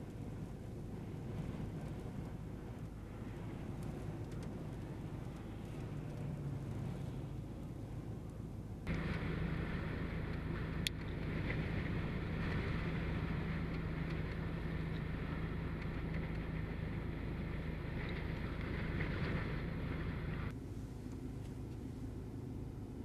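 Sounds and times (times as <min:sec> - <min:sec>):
wind blowing over microphone: 0:00.0 - 0:20.5
low hum: 0:00.0 - 0:23.0.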